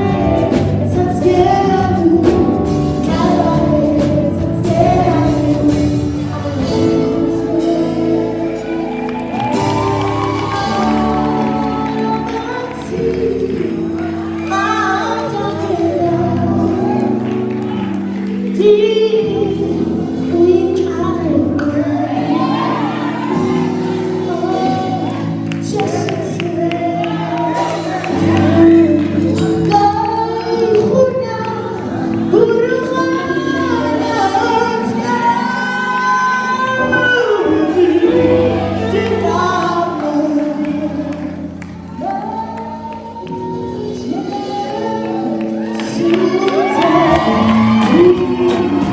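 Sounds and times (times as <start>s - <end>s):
instrumental backing music: 0.0s - 48.9s
woman singing: 0.0s - 48.9s.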